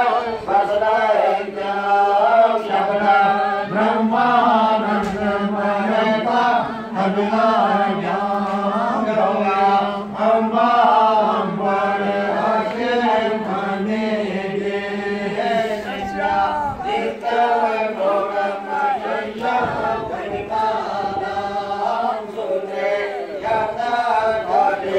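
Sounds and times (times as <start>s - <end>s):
voices chanting mantras: 0.0s - 24.9s.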